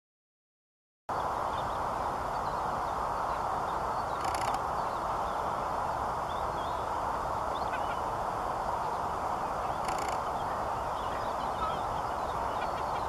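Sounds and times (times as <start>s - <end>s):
rustle: 1.1s - 13.0s
steady rushing noise: 1.1s - 13.0s.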